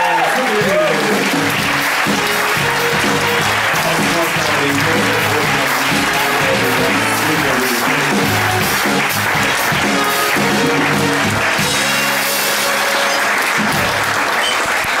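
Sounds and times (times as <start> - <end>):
audience applauding: 0.0 - 15.0
instrumental music: 0.8 - 14.3.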